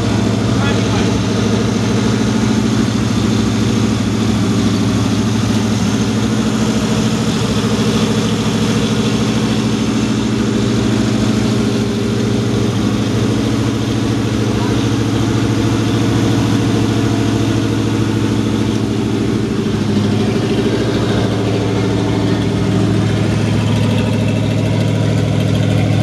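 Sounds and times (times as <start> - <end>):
car engine running steadily: 0.0 - 26.0.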